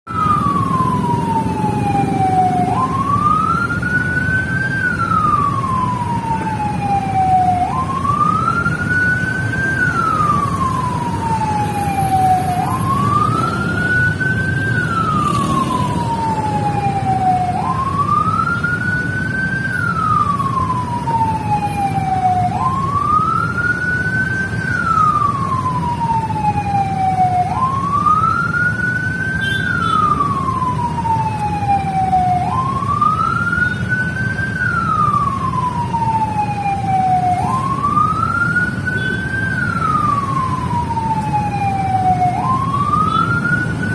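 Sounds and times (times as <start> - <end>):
motor traffic: 0.1 - 43.9
siren wailing: 0.1 - 43.9.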